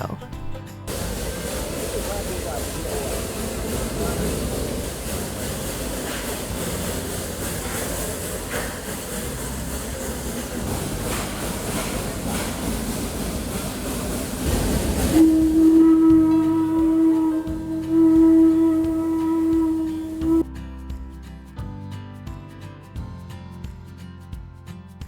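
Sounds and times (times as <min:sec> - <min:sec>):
steam train rumbling and rattling: 0:00.0 - 0:20.5.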